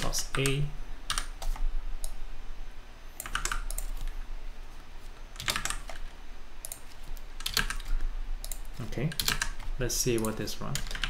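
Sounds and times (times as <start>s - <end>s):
keyboard typing: 0.0s - 2.2s, 3.2s - 4.2s, 5.1s - 11.0s.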